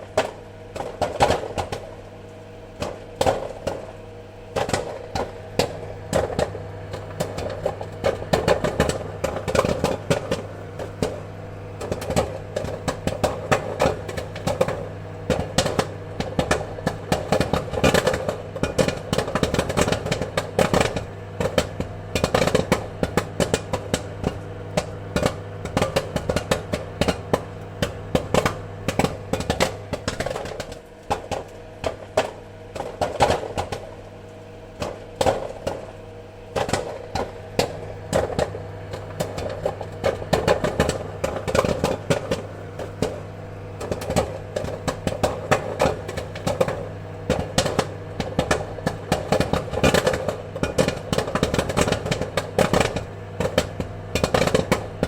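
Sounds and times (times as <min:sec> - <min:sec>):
popcorn popping: 0:00.0 - 0:55.0
steady low hum: 0:00.0 - 0:55.0.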